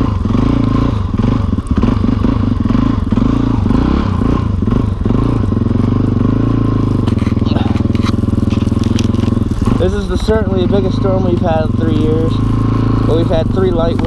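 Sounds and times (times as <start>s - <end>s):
motorcycle engine in snow: 0.0s - 14.0s.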